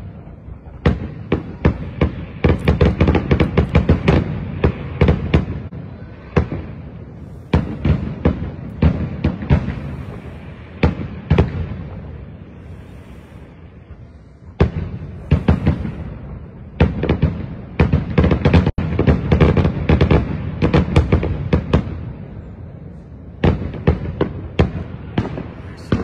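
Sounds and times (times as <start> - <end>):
distant fireworks bangs: 0.0 - 26.0.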